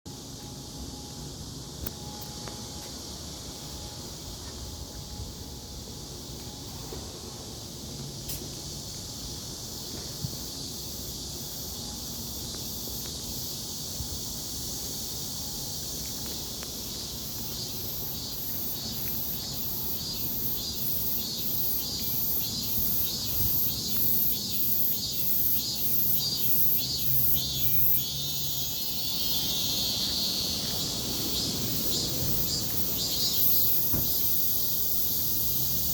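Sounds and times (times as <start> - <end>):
insects buzzing: 0.1 - 35.9
rhythmic insect chirping: 0.1 - 35.9.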